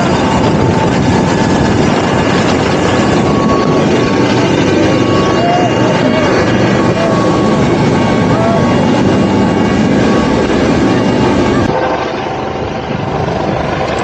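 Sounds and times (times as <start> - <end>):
helicopter rotor and engine noise: 0.0 - 14.0
steady whine: 0.0 - 14.0.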